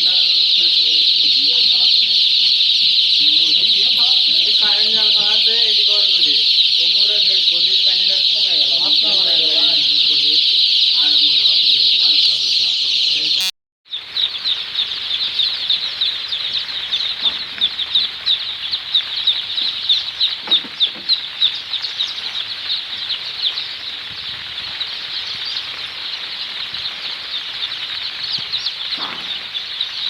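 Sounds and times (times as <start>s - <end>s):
chickens cheeping: 0.0s - 30.0s.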